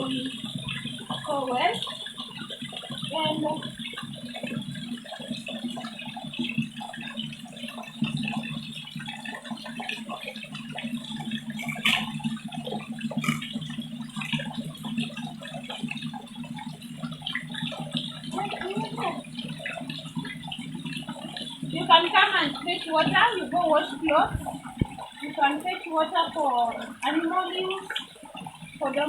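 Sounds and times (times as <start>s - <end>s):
water pouring into a jerrycan: 0.0s - 29.0s.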